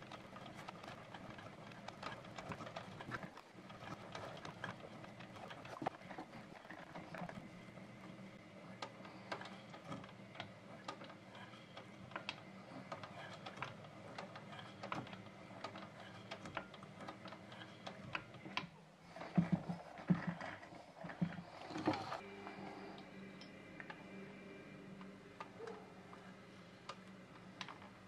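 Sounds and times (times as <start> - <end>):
sewing machine motor hum: 0.0 - 28.0.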